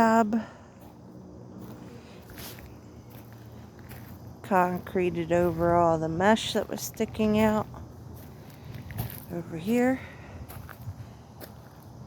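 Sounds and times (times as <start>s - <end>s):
faint background rumble: 0.0s - 12.0s
footsteps: 1.6s - 11.9s.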